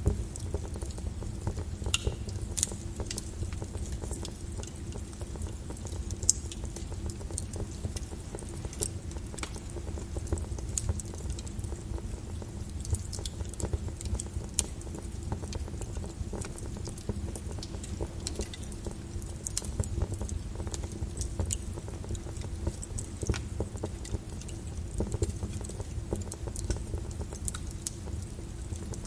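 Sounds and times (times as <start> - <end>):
rain hissing: 0.0 - 29.0
wood fire crackling: 0.0 - 29.0.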